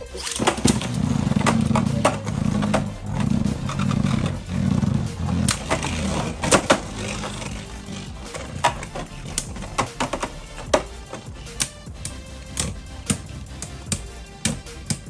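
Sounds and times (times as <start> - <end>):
spinning tops whirring: 0.0 - 15.0.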